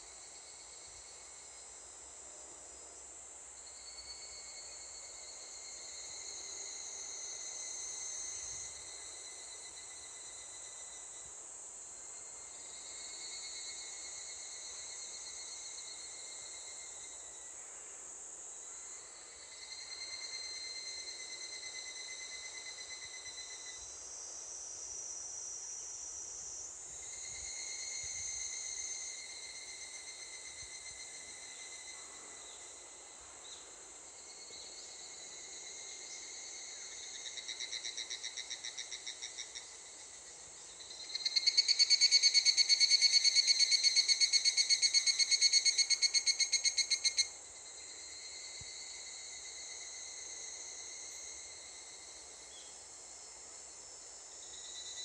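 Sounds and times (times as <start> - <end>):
soft rapidly pulsing insect call: 0.0 - 55.0
cicada chorus ringing: 3.6 - 17.6, 18.3 - 55.0
loud nearby cicada trilling: 3.6 - 55.0.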